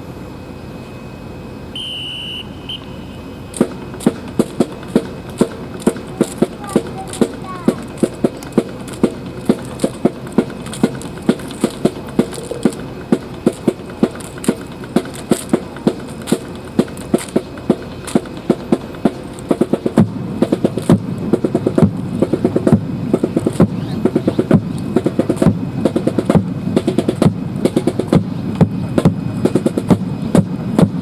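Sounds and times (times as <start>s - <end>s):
marching beats: 1.8s - 31.0s.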